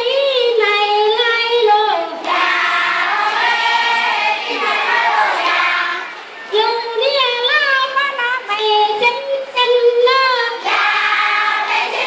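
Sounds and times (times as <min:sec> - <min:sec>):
child singing: 0:00.0 - 0:12.0.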